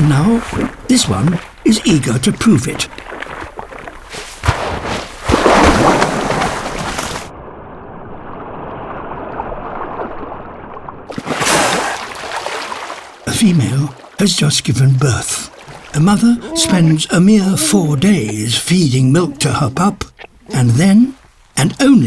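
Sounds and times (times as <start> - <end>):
water sloshing and gurgling: 0.0 - 7.4, 8.1 - 22.0.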